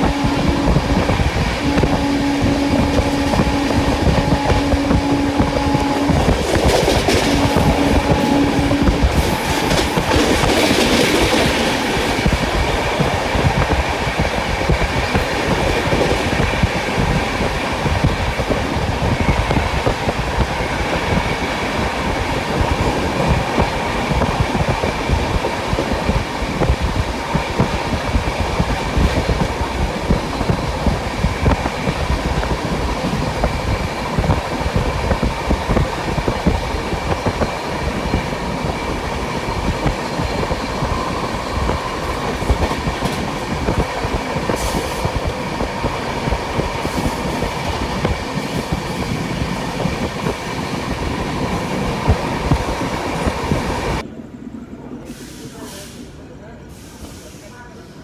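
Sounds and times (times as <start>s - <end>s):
clickety-clack of rail joints: 0.0s - 54.1s
train wheels rumbling on rail: 0.0s - 58.0s.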